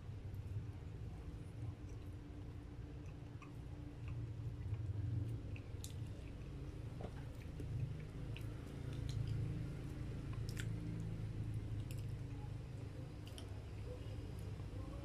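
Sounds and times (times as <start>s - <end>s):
person chewing cake: 0.3s - 14.8s.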